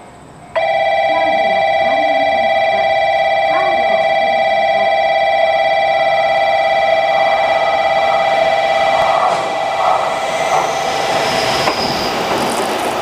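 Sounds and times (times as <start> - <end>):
electronic platform warning alarm: 0.5 - 12.0.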